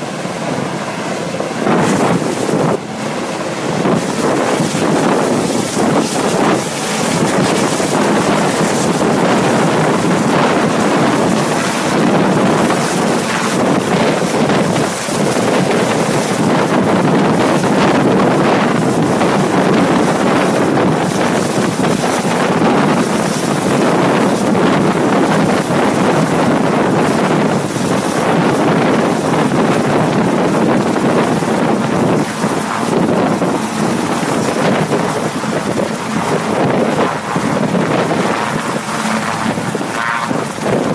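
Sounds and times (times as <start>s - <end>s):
helicopter rotor and turbine noise: 0.0s - 40.9s
rotor downwash buffeting microphone: 0.0s - 40.9s.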